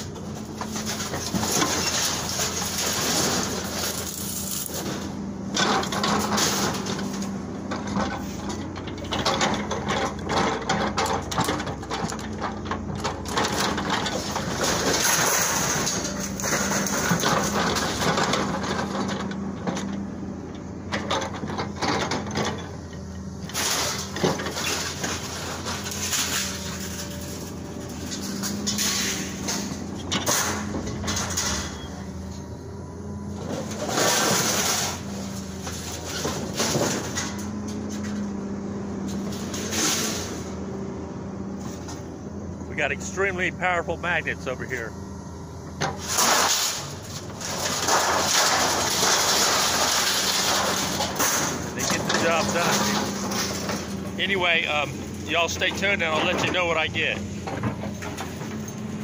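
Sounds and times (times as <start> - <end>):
sheet metal clanking and scraping: 0.0 - 20.0, 23.4 - 32.4, 33.3 - 38.4, 39.0 - 40.6, 45.8 - 59.0
excavator engine running: 0.0 - 59.0.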